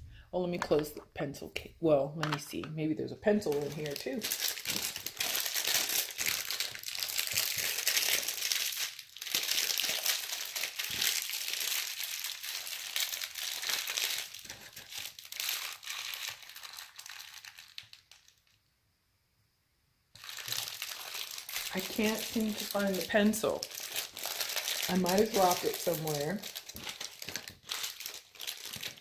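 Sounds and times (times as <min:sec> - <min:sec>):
plastic wrappers crinkling: 0:02.2 - 0:18.6, 0:20.2 - 0:29.0.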